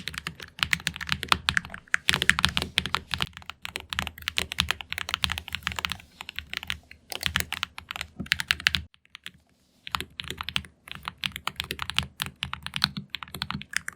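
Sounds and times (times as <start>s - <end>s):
mechanical keyboard typing: 0.0s - 9.3s, 9.9s - 13.9s.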